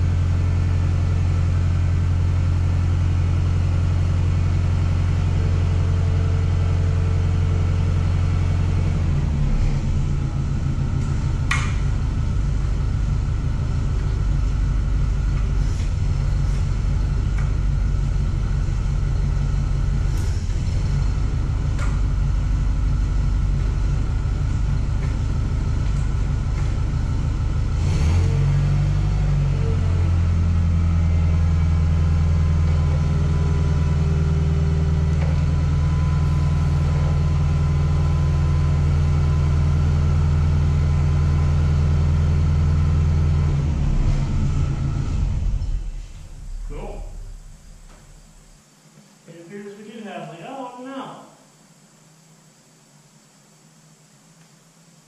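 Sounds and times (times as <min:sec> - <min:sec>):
forklift engine running: 0:00.0 - 0:48.7.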